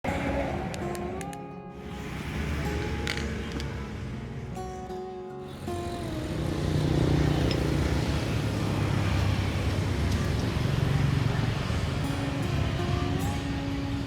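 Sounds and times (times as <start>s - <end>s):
passing vehicle engines: 0.1s - 14.0s.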